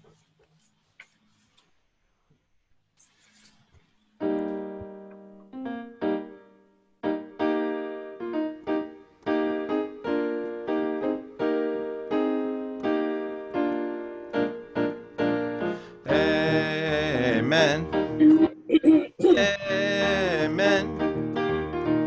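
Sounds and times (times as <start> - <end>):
piano chords: 4.2 - 22.0.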